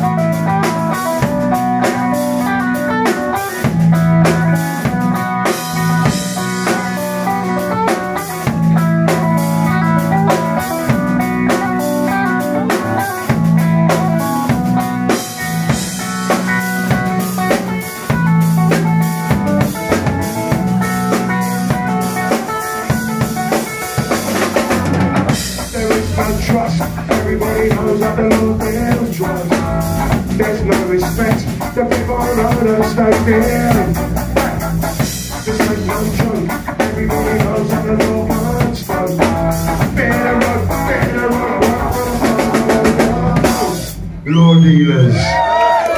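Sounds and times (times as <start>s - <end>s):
drum kit beat: 0.0s - 44.2s
electric guitar: 0.0s - 44.3s
bass guitar: 0.0s - 45.9s.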